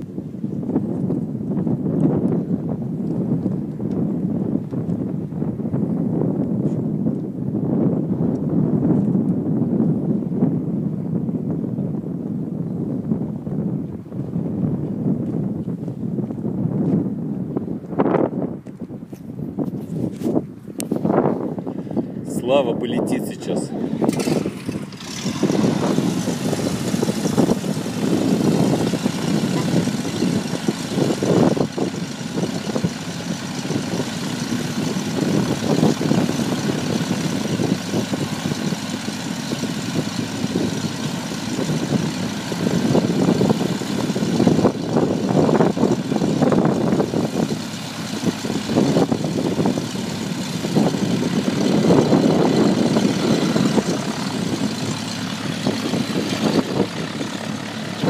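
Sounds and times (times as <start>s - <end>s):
light aircraft propeller engine: 0.0s - 58.0s.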